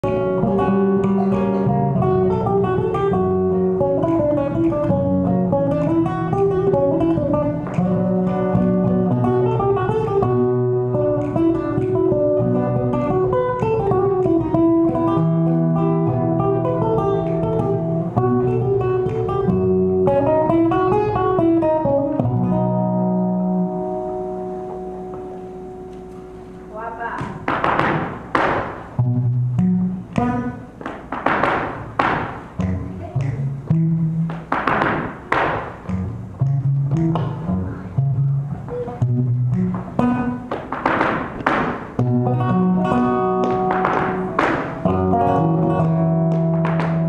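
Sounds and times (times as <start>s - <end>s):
flamenco guitars playing: 0.0s - 47.0s.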